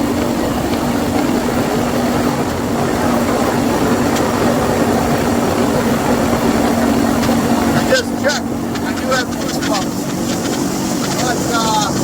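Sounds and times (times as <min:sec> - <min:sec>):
motorcycle engine cruising: 0:00.0 - 0:12.0
wind on microphone: 0:00.0 - 0:12.0.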